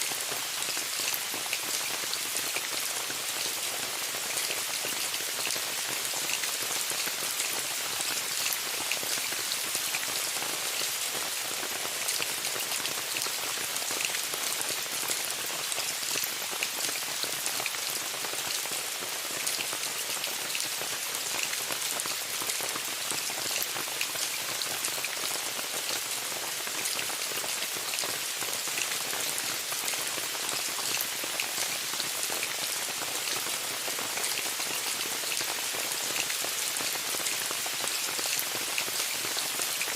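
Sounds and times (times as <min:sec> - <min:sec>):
rain pattering on a tent: 0:00.0 - 0:39.9.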